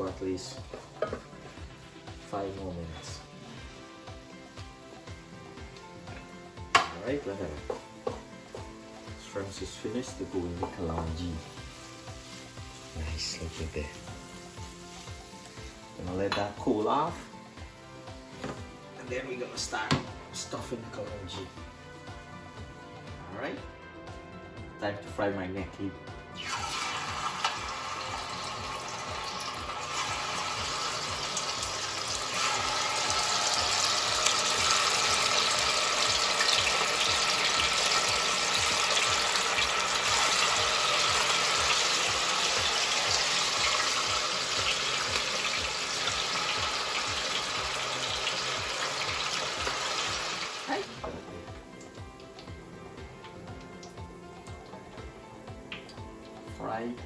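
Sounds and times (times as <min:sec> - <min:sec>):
fish frying in hot oil: 0:00.0 - 0:18.4, 0:26.4 - 0:56.2.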